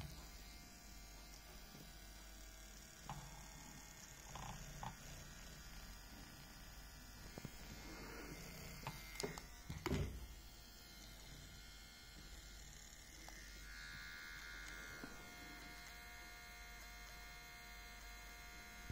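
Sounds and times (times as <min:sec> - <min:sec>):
small electric motor whirring: 0:00.0 - 0:18.9.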